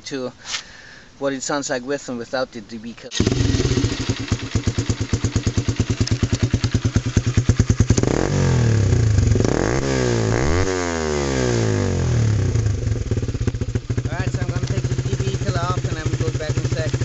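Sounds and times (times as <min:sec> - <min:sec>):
motorcycle engine idling and revving: 0:03.1 - 0:17.0.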